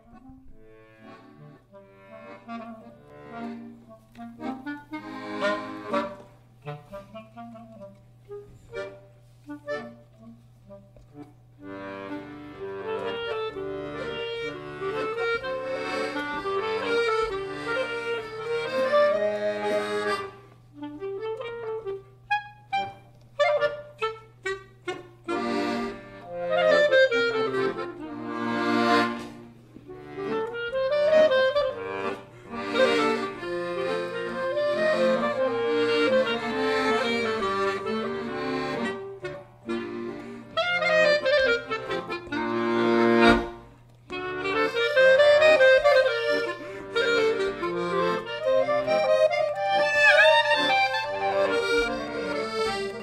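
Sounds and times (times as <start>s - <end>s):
accordion: 0.0s - 53.0s
clarinet: 0.0s - 53.0s.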